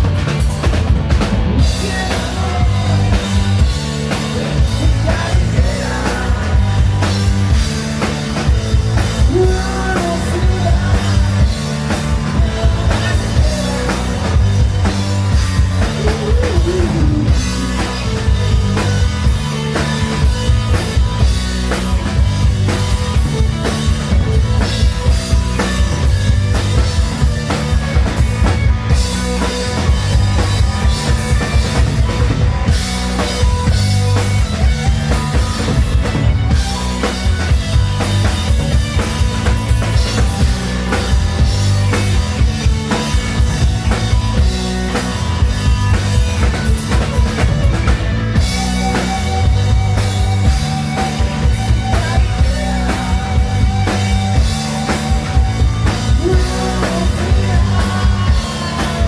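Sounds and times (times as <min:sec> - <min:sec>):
bass guitar: 0:00.0 - 0:59.0
distorted guitars: 0:00.0 - 0:59.0
drum kit beat: 0:00.0 - 0:59.0
hard rock band playing loud: 0:00.0 - 0:59.0.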